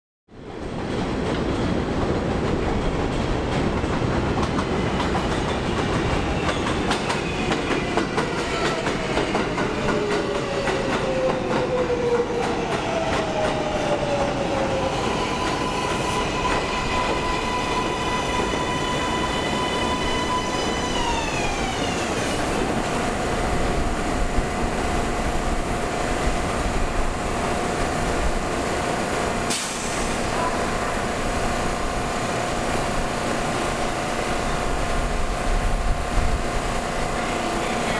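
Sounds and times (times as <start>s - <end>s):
train wheels rumbling and clacking: 0.4s - 37.9s.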